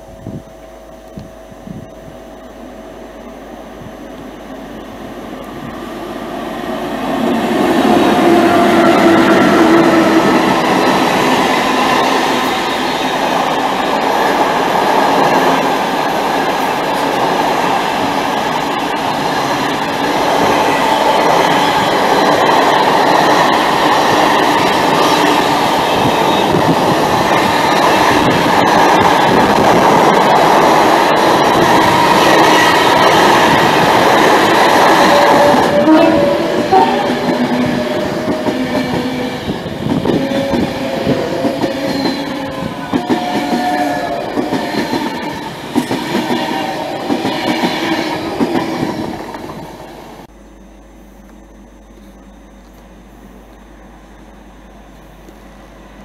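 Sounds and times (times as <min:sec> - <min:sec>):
freight train rumbling and clattering: 0:00.0 - 0:50.3
electric train whining: 0:00.0 - 0:56.0.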